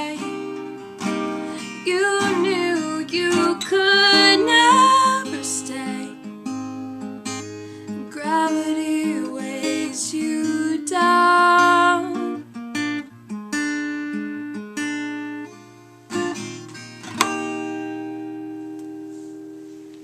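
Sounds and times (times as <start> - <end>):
acoustic guitar picking: 0.0 - 20.0.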